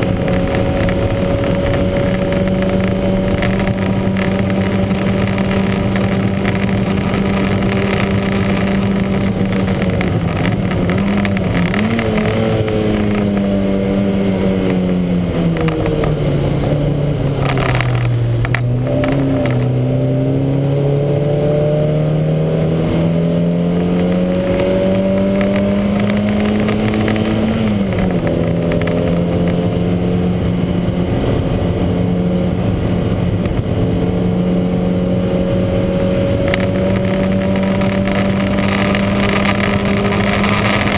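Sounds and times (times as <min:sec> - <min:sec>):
racing car engine revving: 0:00.0 - 0:40.9.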